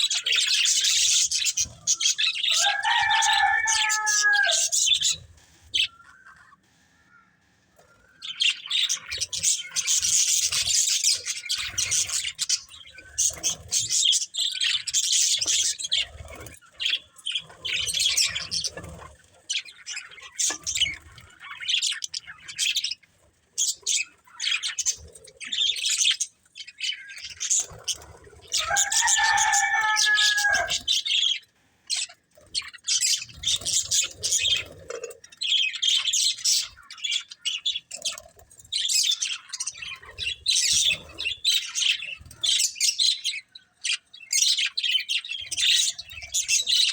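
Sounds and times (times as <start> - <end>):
budgerigars chirping and chattering: 0.0 - 6.7, 7.8 - 46.9.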